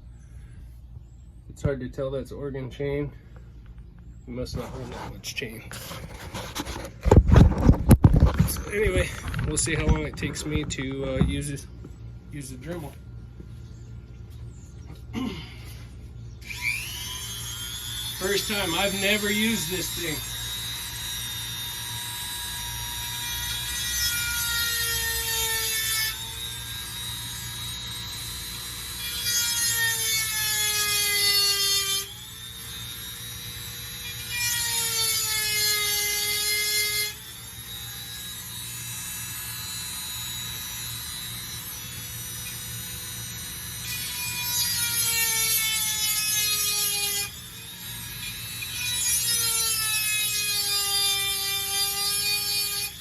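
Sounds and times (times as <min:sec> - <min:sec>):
rotary tool whining: 0:04.4 - 0:11.4, 0:16.4 - 0:53.0.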